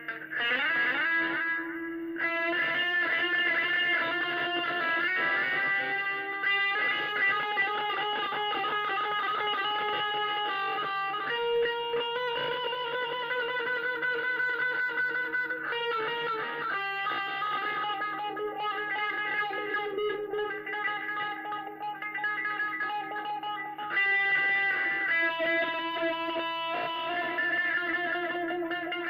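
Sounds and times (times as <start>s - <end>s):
electric guitar being picked: 0.0s - 29.0s.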